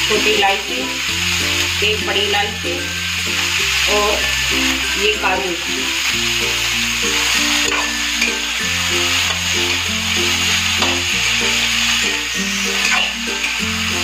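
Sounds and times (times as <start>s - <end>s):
food sizzling in hot oil: 0.0s - 14.0s
slow background music: 0.0s - 14.0s.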